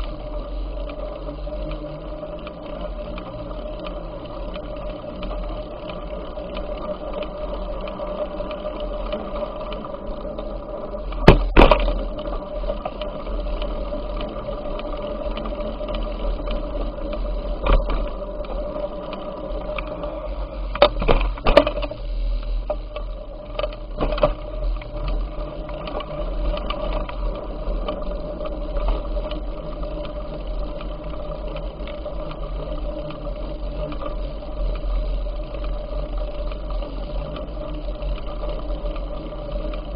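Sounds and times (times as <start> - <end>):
bicycle rolling: 0.0 - 39.9
faint hum: 0.0 - 39.9.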